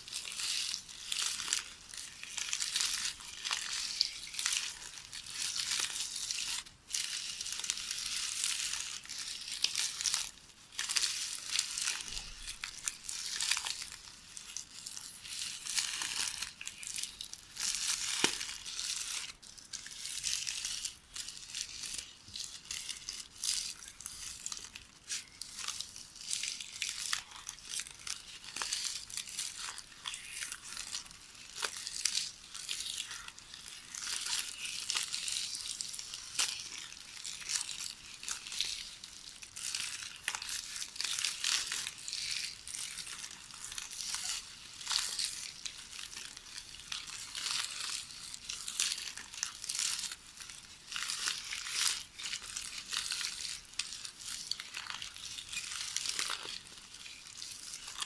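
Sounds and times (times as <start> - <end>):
videotape crinkling: 0.0 - 58.0.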